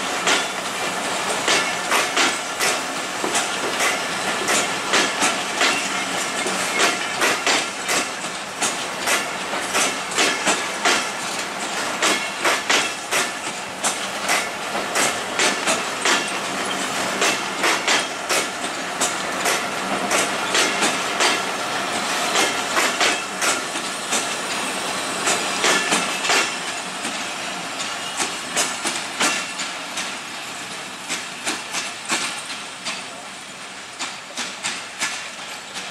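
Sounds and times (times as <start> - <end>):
wheels clattering over rail joints: 0.0 - 33.3
train rushing noise: 0.0 - 35.9.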